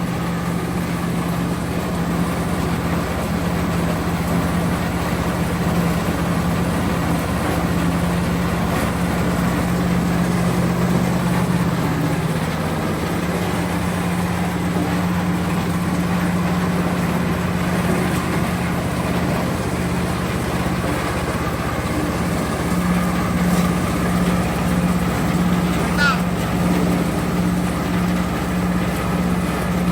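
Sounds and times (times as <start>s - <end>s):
corn sheller machine droning: 0.0s - 29.9s.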